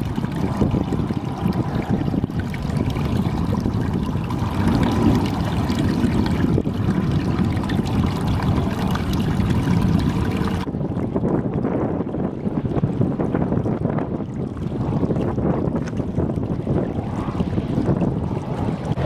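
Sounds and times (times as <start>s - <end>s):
low rumble: 0.0s - 19.0s
running rainwater: 0.0s - 19.0s.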